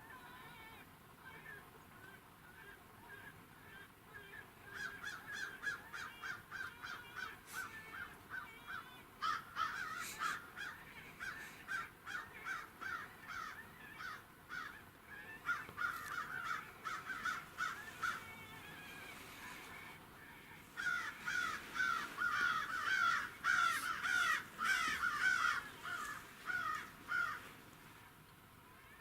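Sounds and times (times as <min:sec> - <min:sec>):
rapid raspy calls: 0:02.5 - 0:27.6.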